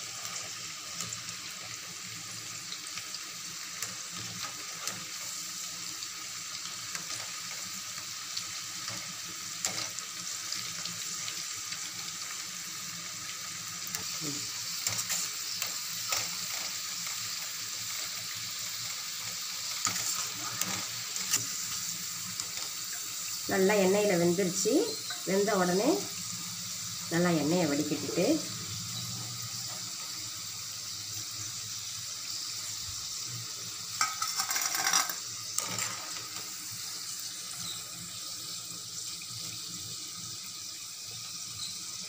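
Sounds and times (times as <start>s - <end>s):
deep-frying sizzle in oil: 0.0s - 42.0s.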